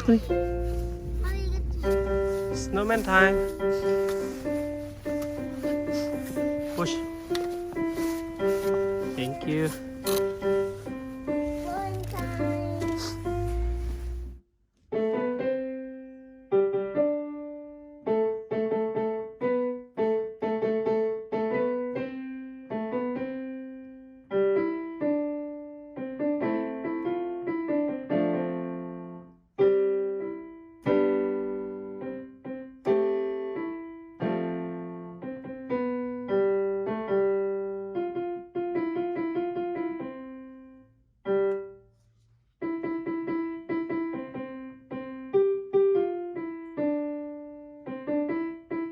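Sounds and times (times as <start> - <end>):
gentle piano music: 0.0 - 41.9, 42.6 - 48.9.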